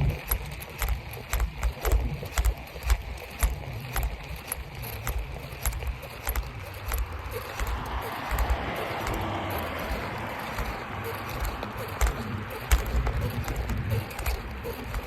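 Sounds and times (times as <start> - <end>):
bicycle rattling: 0.0 - 15.0.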